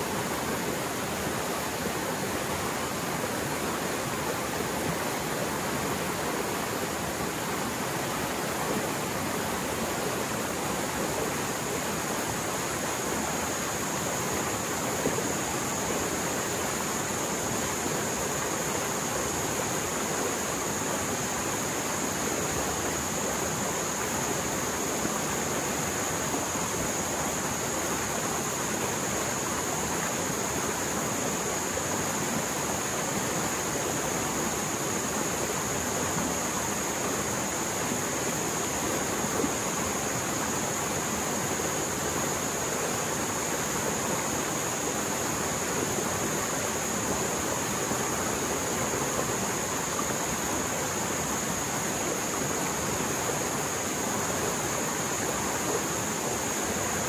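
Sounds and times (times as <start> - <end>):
stream water roaring: 0.0 - 57.0.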